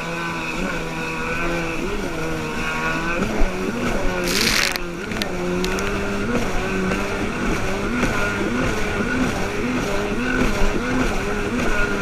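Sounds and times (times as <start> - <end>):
rush of water and wind: 0.0 - 12.0
watercraft engine running: 0.1 - 12.0.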